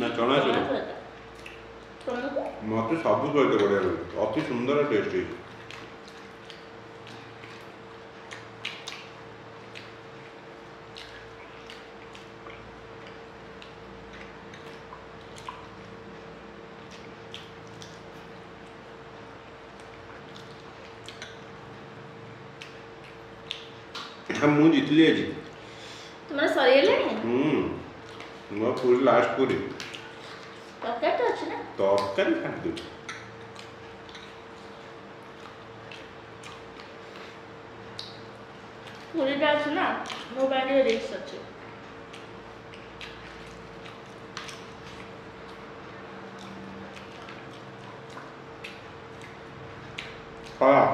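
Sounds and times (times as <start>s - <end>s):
faint steady hum: 0.0s - 50.9s
wet eating squelches and clicks: 1.1s - 50.9s.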